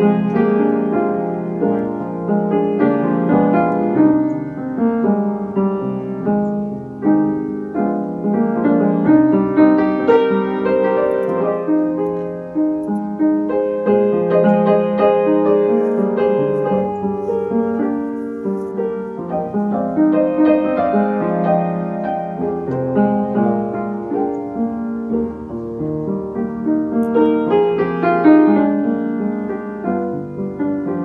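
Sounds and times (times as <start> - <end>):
solo piano music: 0.0 - 31.0.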